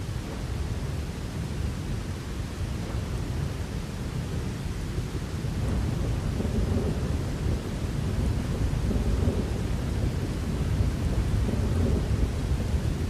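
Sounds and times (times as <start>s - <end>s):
rolling thunder rumble: 0.0s - 13.0s
steady rain: 0.0s - 13.0s.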